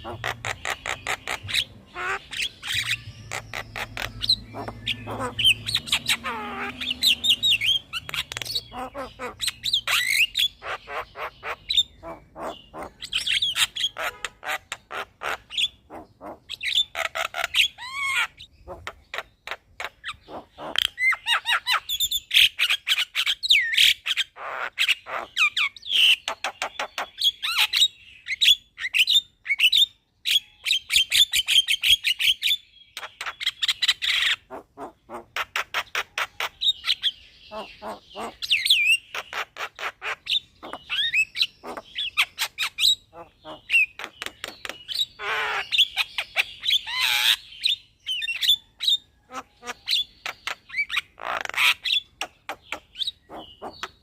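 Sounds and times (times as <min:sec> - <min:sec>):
myna bird singing: 0:00.0 - 0:54.0.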